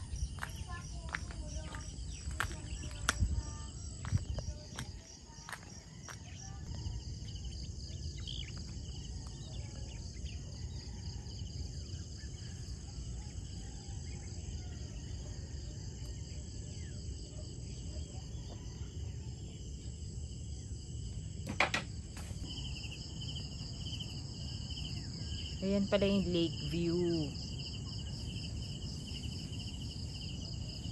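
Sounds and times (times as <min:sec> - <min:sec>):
insects trilling: 0:00.0 - 0:30.9.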